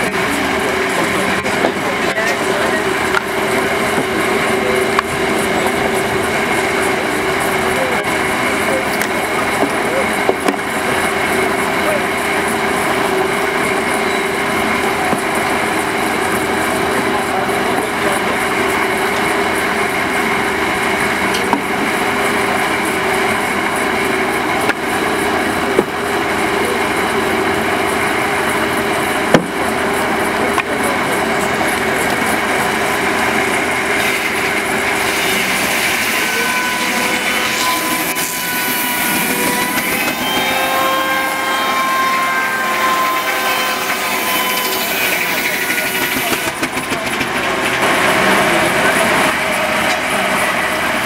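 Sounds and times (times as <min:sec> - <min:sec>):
circular saw cutting timber: 0:00.0 - 0:51.0
saw blade whining: 0:00.0 - 0:51.0.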